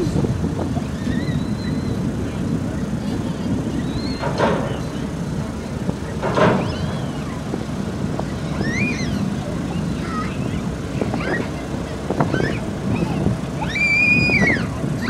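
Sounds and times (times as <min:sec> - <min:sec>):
gulls calling: 0:00.0 - 0:15.0
vehicle engines rumbling: 0:00.0 - 0:15.0.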